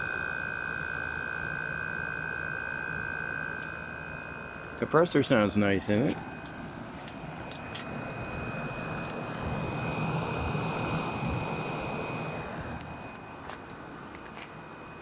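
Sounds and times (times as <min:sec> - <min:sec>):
air conditioner running: 0:00.0 - 0:15.0.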